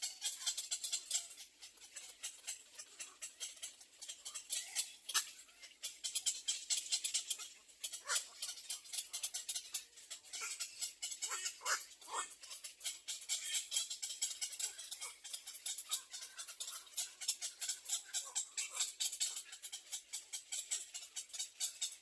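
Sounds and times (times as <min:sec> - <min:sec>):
nestling birds chirping: 0:00.0 - 0:22.0.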